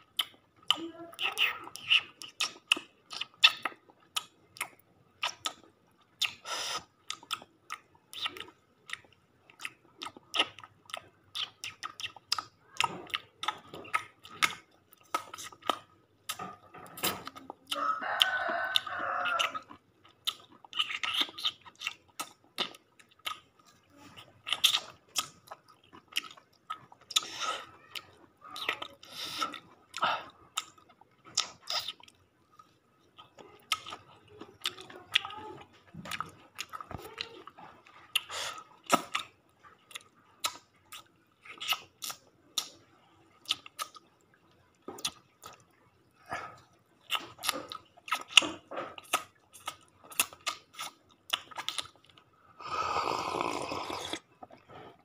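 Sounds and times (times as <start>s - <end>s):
person chewing and smacking: 0.0s - 52.4s, 53.2s - 55.0s.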